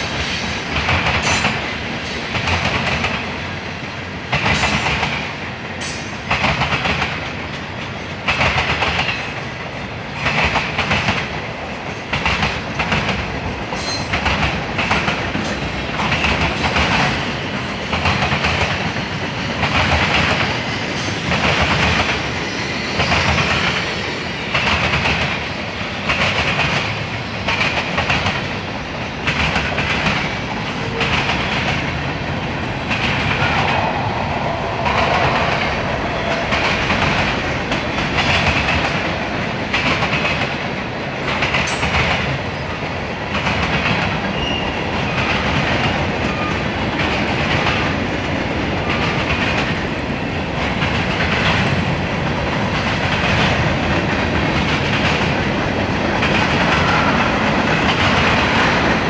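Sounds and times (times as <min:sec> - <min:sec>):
freight train wheels clicking: 0:00.0 - 0:59.0
train rolling noise: 0:00.0 - 0:59.0.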